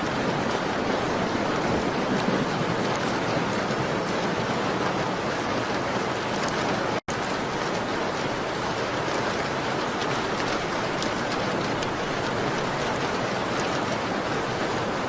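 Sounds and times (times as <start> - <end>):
rain on a window: 0.0 - 15.0.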